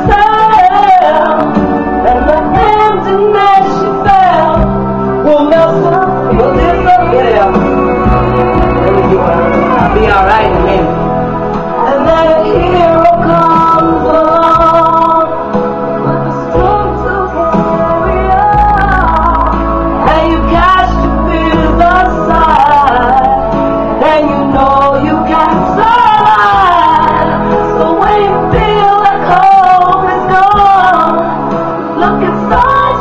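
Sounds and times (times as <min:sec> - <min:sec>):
backing music with bass line: 0:00.0 - 0:33.0
woman singing: 0:00.0 - 0:33.0.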